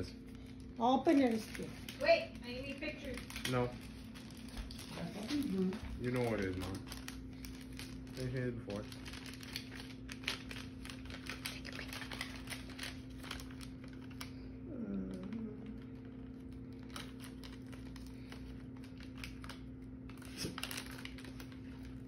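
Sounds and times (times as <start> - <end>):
steady low hum: 0.0 - 22.0
wrapping paper crinkling: 0.0 - 22.0.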